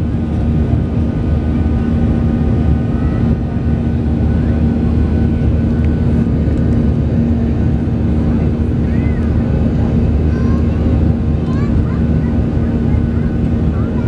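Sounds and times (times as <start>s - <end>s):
constant low hum: 0.0s - 14.0s
jet engine rumble in cabin: 0.0s - 14.0s.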